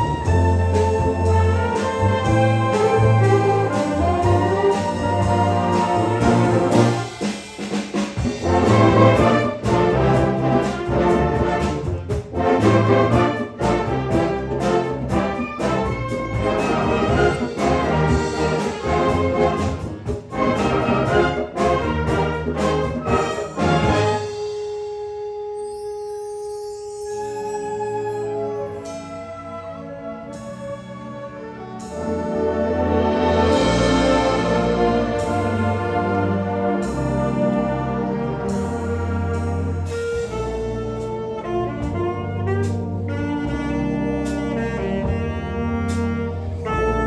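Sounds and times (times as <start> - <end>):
concert band playing: 0.0 - 47.0.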